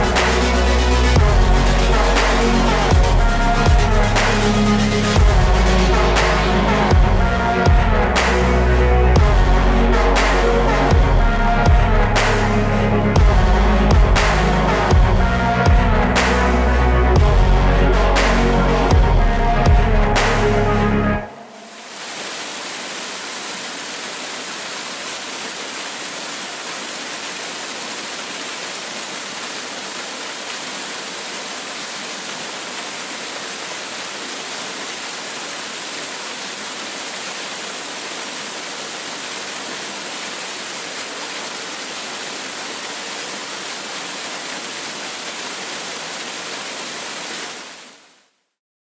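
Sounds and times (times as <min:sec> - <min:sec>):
steady rush of water: 0:00.0 - 0:12.9, 0:21.2 - 0:48.4.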